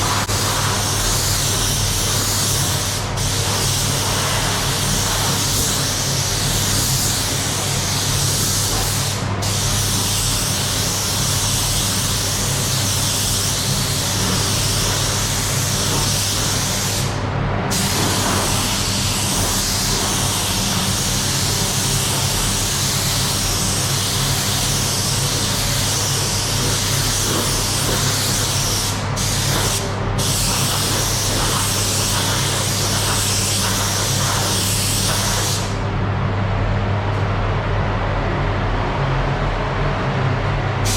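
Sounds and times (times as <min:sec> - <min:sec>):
spray gun hissing: 0:00.0 - 0:35.8.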